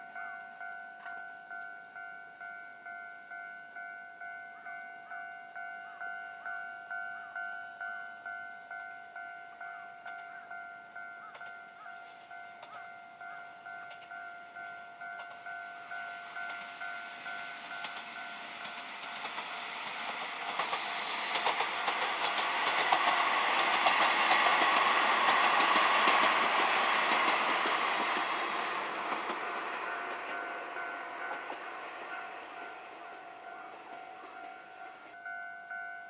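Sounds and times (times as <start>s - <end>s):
diesel railcar passing: 0.0s - 36.0s
wheels on rail joints: 4.7s - 36.0s.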